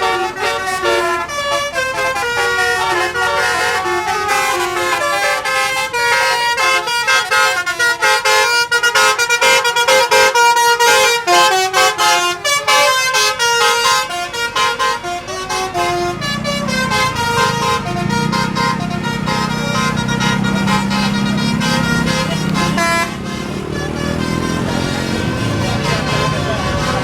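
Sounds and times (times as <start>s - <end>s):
multi-tone bus horn melody: 0.0s - 27.0s.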